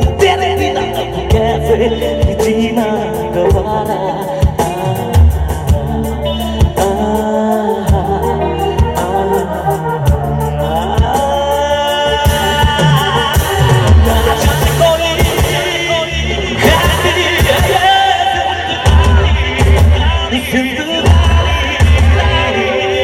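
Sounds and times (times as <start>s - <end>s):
live band music: 0.0s - 23.0s
steady drum beat: 0.0s - 23.0s
strong bass line: 0.0s - 23.0s.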